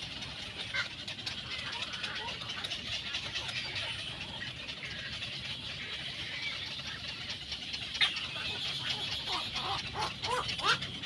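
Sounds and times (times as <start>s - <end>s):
steady high chirring: 0.0s - 11.0s.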